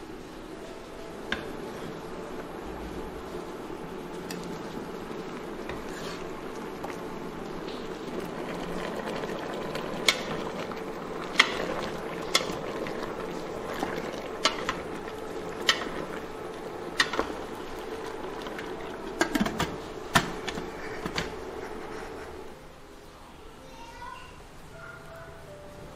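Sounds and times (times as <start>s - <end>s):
pot bubbling and hissing: 0.0s - 23.6s.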